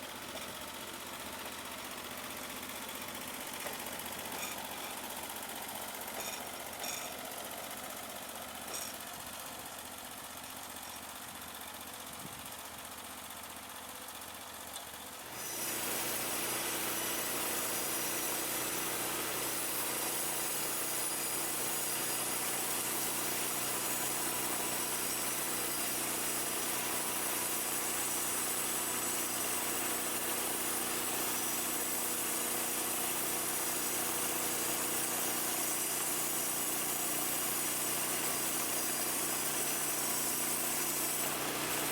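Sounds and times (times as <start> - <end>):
sawmill engine running: 0.0 - 12.2, 15.2 - 41.9.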